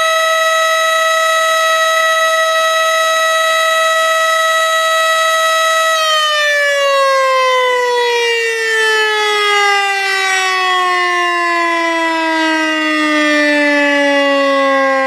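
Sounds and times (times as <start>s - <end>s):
siren winding down: 0.0s - 15.0s.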